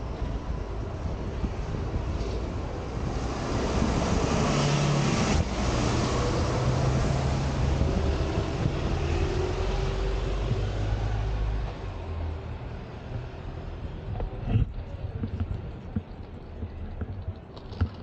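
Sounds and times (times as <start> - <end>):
tyres on road: 0.0 - 18.0.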